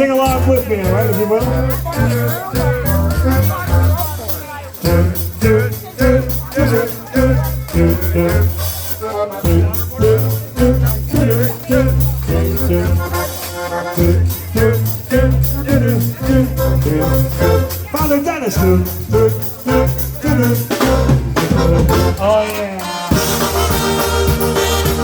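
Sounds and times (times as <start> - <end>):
polka band playing: 0.0 - 25.0
washboard scratching rhythm: 0.0 - 25.0.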